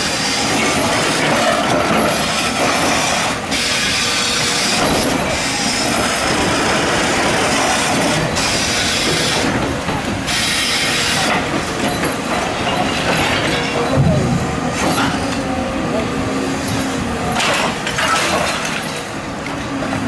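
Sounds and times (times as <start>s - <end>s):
excavator grinding: 0.0s - 20.0s.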